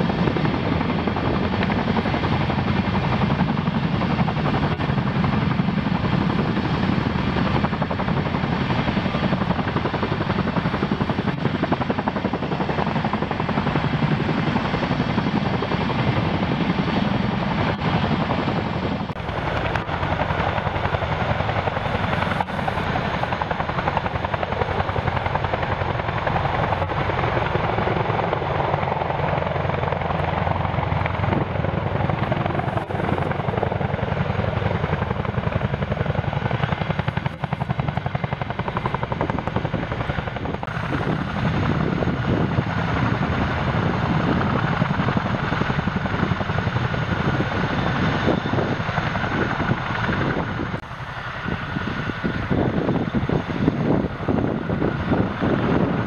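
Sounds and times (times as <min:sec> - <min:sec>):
helicopter rotor beat: 0:00.0 - 0:56.0
turbine engines: 0:00.0 - 0:56.0.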